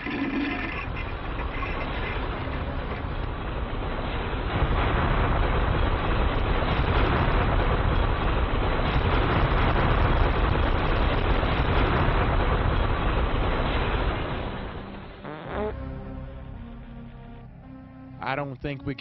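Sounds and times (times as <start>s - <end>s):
loud rushing rumbling noise: 0.0s - 19.0s.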